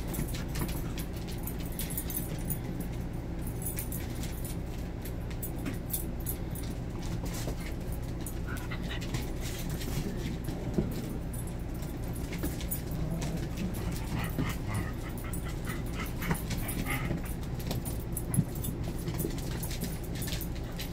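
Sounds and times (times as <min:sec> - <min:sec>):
puppy claws pattering on floor: 0:00.0 - 0:20.9.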